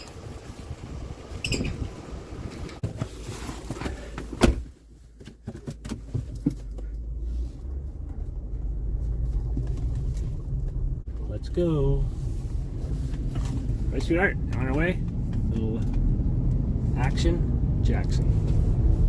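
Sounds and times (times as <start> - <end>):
truck engine rumbling: 0.0 - 2.8, 6.4 - 19.0.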